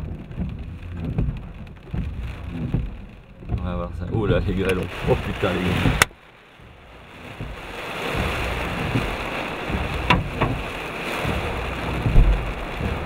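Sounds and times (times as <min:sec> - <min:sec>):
hail and rain pelting down: 0:00.0 - 0:13.0
hailstones cracking nearby: 0:00.0 - 0:13.0.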